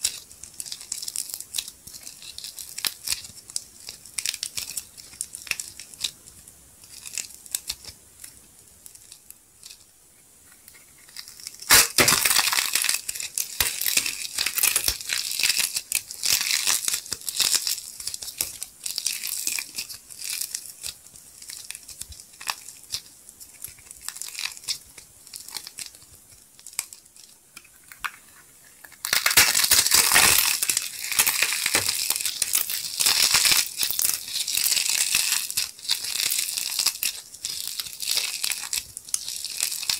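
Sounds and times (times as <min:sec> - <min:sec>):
clay crinkling and crackling: 0:00.0 - 0:39.9.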